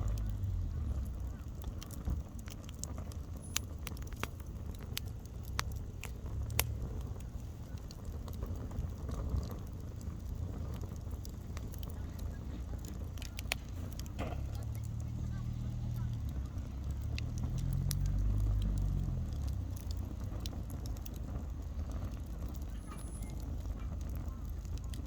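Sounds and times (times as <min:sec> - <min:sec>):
campfire crackling and popping: 0:00.0 - 0:25.0
low steady rumble: 0:00.0 - 0:25.0.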